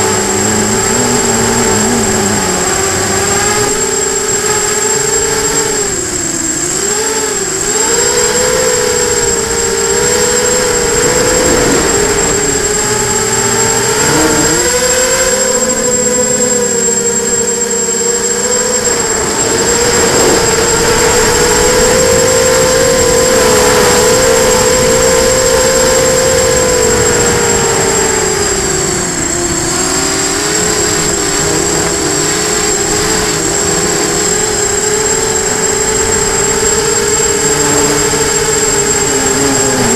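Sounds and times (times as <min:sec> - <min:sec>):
constant high-pitched tone: 0:00.0 - 0:39.9
drone motors and propellers whining: 0:00.0 - 0:39.9
wind rumble on microphone: 0:00.0 - 0:39.9.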